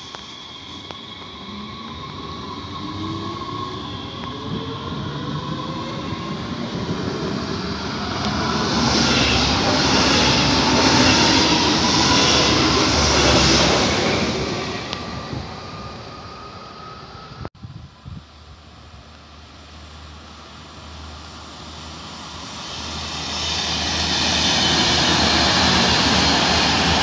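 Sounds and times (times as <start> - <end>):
train wheel and rail noise: 0.0 - 27.0.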